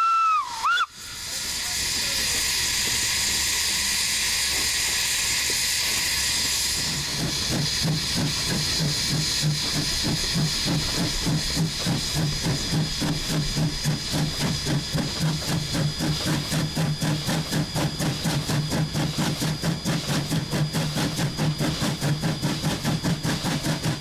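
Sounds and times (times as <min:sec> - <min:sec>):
steam hissing: 0:00.0 - 0:24.0
steam locomotive exhaust chuffs: 0:00.0 - 0:24.0.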